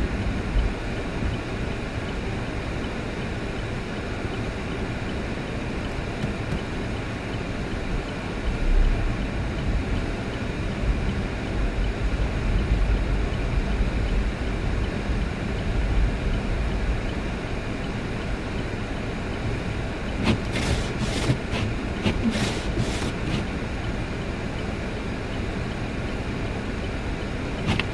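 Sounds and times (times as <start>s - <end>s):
vehicle engine and tyre rumble: 0.0s - 27.9s.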